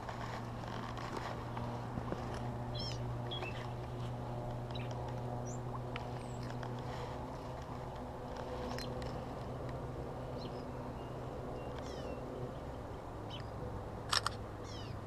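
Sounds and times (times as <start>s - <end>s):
steady low hum: 0.0s - 15.0s
birds chirping: 0.7s - 9.3s, 10.2s - 13.6s, 14.6s - 15.0s.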